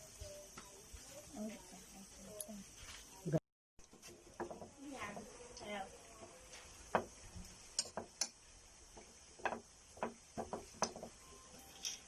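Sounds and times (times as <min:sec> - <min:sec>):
faint high hiss: 0:00.0 - 0:12.0.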